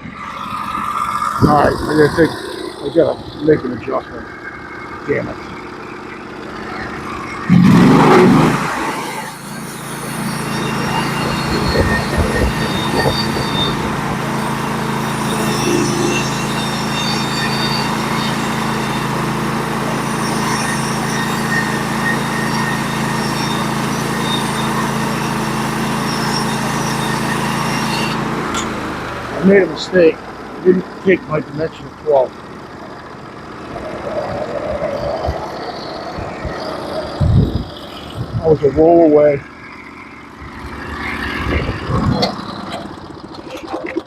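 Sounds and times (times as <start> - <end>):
band sawmill engine drone: 0.0 - 44.0
high-pitched squeal: 0.0 - 44.0.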